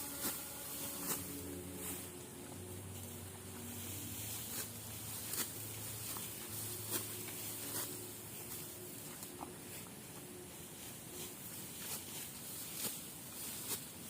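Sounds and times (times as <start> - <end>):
low steady hum: 0.0 - 14.0
sickle cutting rice stalks: 0.0 - 14.0.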